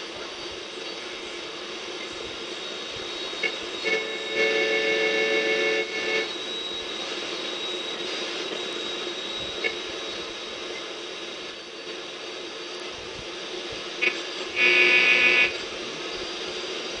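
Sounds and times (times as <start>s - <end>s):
radio static hiss: 0.0s - 17.0s
steady whistling tone: 0.0s - 17.0s.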